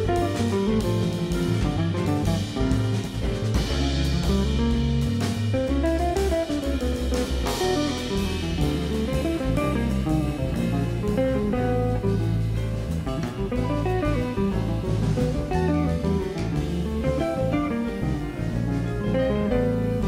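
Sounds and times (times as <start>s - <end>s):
drum kit with cymbals: 0.0s - 20.0s
electric bass: 0.0s - 20.0s.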